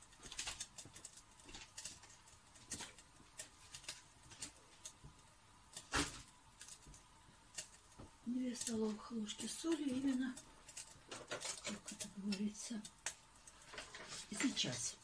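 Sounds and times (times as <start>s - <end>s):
ticks and crackles of heating pot: 0.0s - 15.0s.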